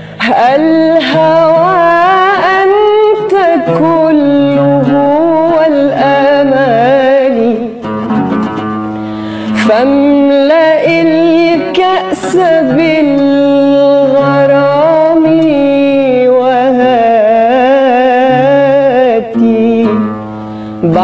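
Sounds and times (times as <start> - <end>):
woman singing ornamented melody: 0.0 - 7.9, 9.5 - 21.0
plucked oud: 0.0 - 21.0.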